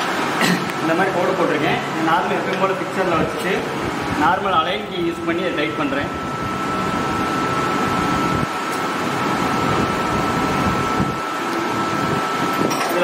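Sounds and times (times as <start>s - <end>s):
high-pitched whine: 0.0s - 13.0s
mechanical hum: 0.0s - 13.0s.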